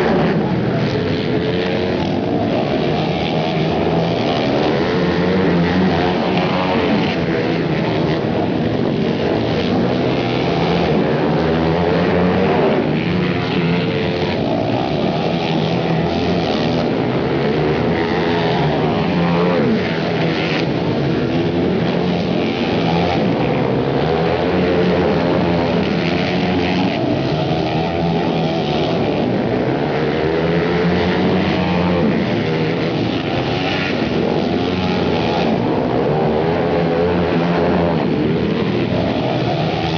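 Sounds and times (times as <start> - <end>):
racing motorcycles revving: 0.0 - 39.9.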